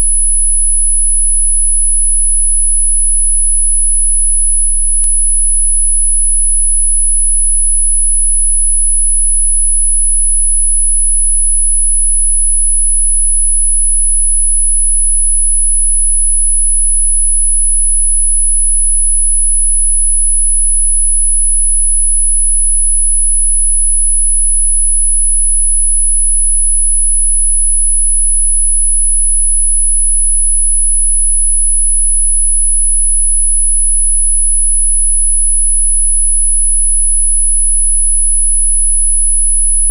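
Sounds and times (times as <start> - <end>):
high-pitched sine tone: 0.0 - 39.9.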